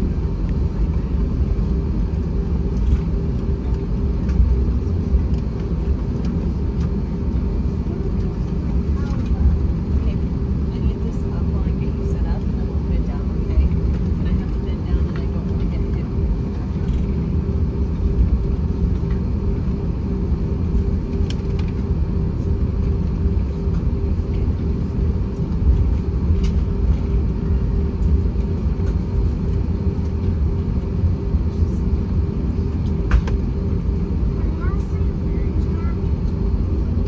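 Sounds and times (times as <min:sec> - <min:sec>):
airplane cabin rumble: 0:00.0 - 0:37.0
steady hum: 0:00.0 - 0:37.0.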